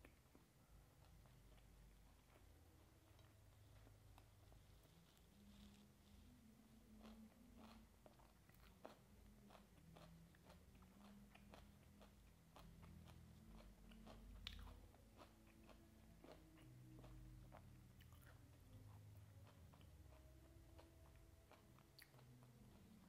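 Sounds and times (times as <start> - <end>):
chewing crunchy food: 0.0 - 6.2, 6.8 - 23.0.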